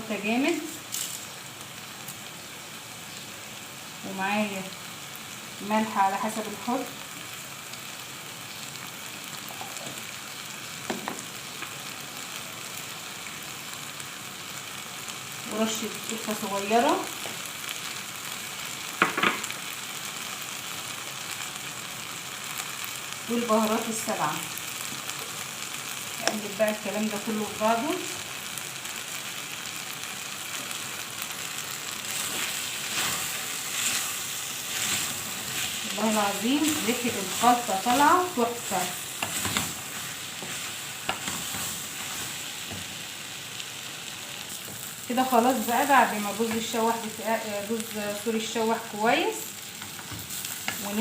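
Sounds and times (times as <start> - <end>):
rice frying in a pot: 0.0 - 51.0.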